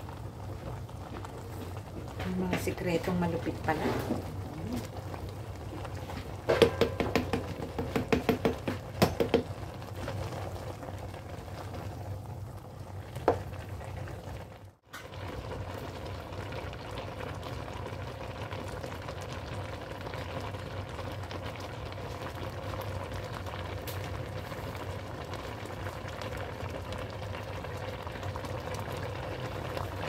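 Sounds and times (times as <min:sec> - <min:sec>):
pot boiling with bubbling pops: 0:00.0 - 0:30.0.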